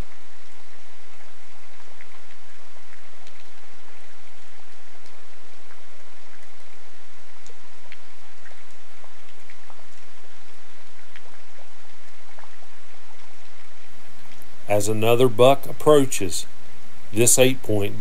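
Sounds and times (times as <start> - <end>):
raindrops ticking: 0.0 - 18.0
steady rain: 0.0 - 18.0.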